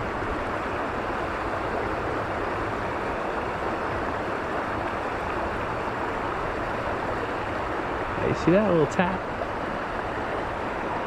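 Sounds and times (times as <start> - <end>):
creek water rushing over riffles: 0.0 - 11.0.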